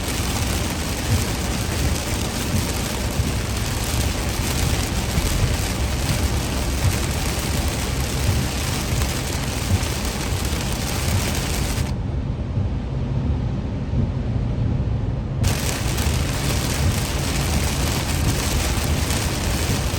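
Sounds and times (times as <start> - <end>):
car road rumble: 0.0 - 12.0, 15.0 - 19.9
heavy rain on a car: 0.0 - 12.0, 15.4 - 19.9.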